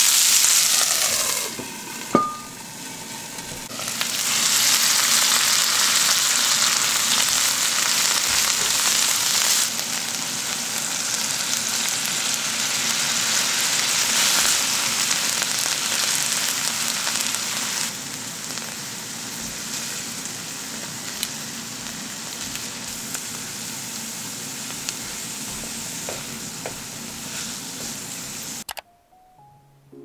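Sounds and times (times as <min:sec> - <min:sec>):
fish sizzling in a frying pan: 0:00.0 - 0:02.0, 0:03.0 - 0:28.6.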